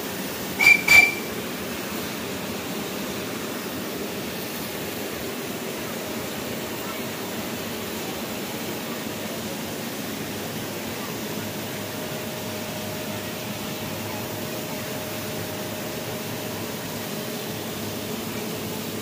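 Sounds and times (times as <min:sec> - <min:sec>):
steam hissing: 0:00.0 - 0:19.0.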